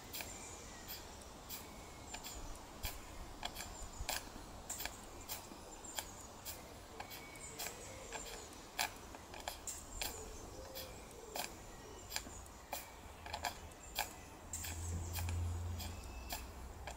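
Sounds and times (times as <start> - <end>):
faint steam hiss: 0.0 - 16.9.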